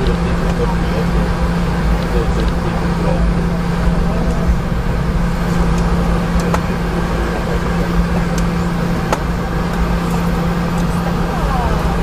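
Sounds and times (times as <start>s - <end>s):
airliner cabin jet engine hum: 0.0s - 12.0s
low rumble: 0.0s - 12.0s.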